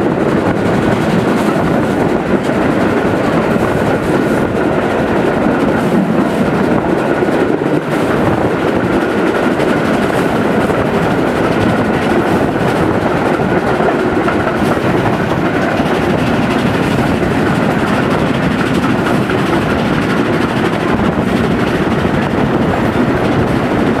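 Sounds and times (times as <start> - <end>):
steam locomotive working: 0.0 - 24.0
train wheels on rails: 0.0 - 24.0.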